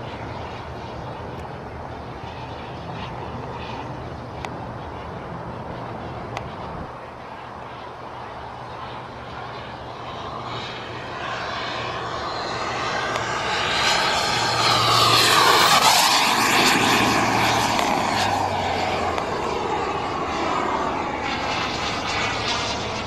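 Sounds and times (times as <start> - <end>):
model jet turbine fly-by: 0.0 - 23.0.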